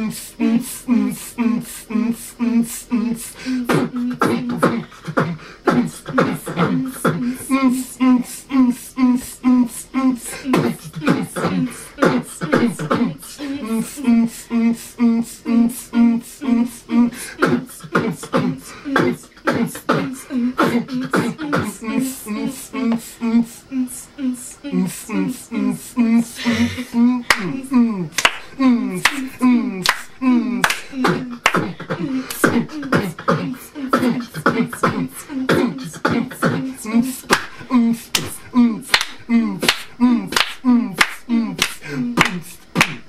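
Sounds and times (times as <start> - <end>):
man beatboxing: 0.0 - 43.0.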